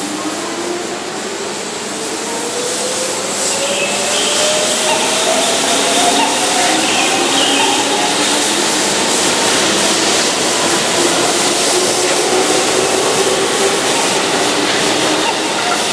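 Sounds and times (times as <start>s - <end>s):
electric train pulling away: 0.0s - 15.9s.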